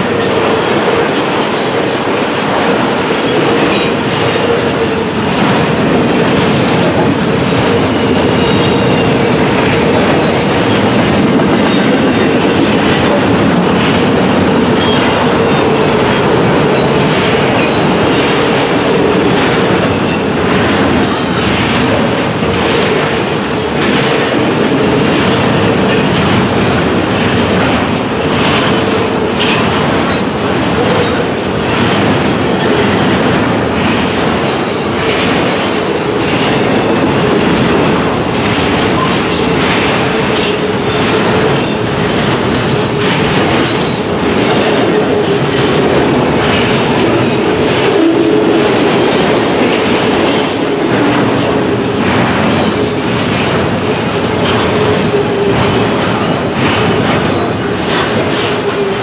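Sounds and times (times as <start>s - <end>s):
freight train wheels rumbling: 0.0s - 59.0s
wheels clicking over rail joints: 0.0s - 59.0s.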